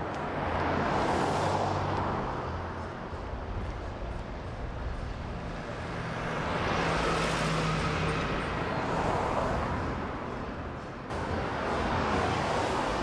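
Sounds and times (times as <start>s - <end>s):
general traffic noise: 0.0s - 13.0s.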